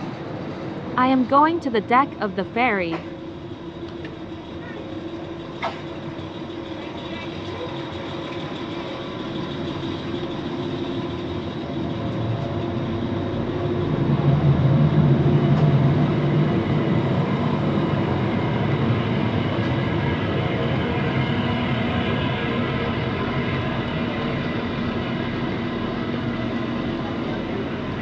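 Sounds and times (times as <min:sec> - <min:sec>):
ferry engines droning: 0:00.0 - 0:28.0.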